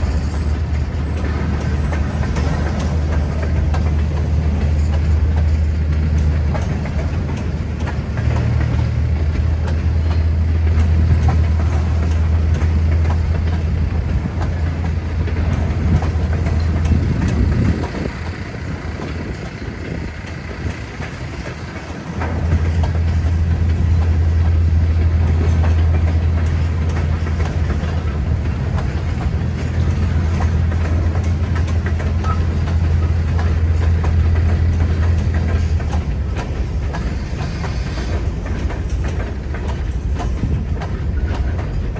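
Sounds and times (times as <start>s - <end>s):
freight train rumbling on rails: 0.0s - 41.9s.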